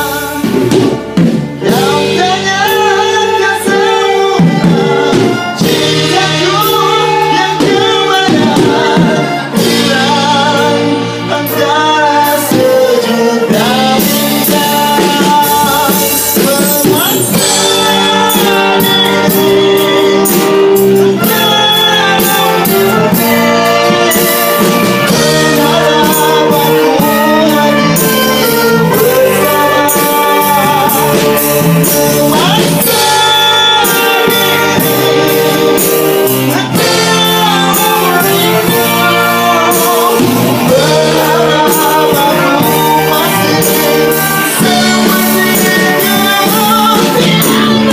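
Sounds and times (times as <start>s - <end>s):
live band playing: 0.0s - 47.9s
man singing a ballad: 0.0s - 47.9s.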